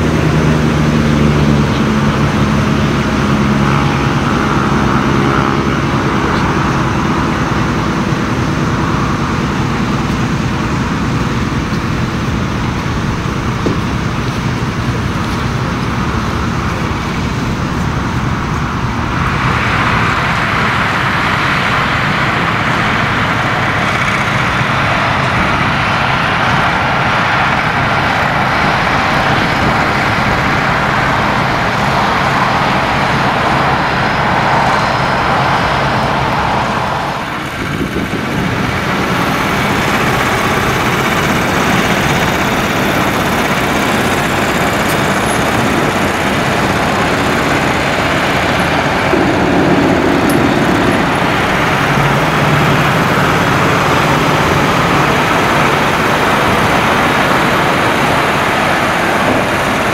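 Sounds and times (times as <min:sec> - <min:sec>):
truck diesel engines running: 0:00.0 - 0:59.9.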